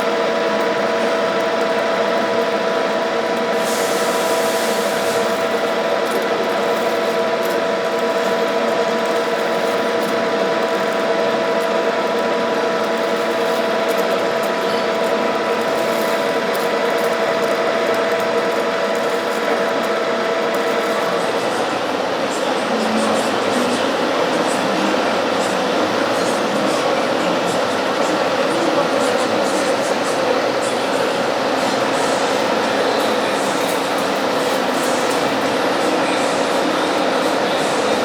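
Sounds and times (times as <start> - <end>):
lathe headstock whine: 0.1 - 38.0
lathe cutting metal: 1.8 - 38.0.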